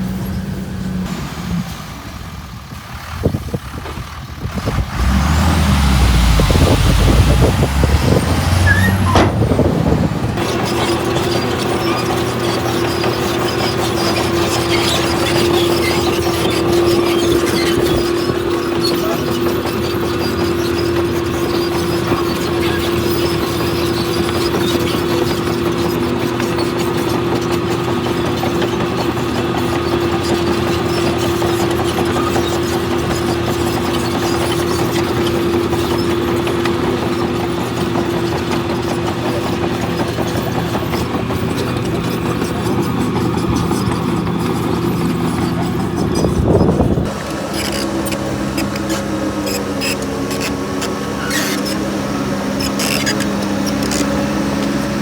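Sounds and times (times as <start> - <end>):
diesel engine drone: 0.0 - 55.0
mechanical clatter: 10.4 - 55.0.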